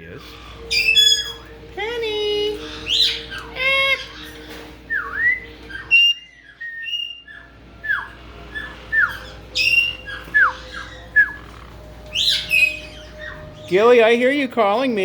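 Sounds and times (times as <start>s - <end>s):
parrot squawk: 0.0s - 13.7s
parrots whistling: 0.0s - 15.0s.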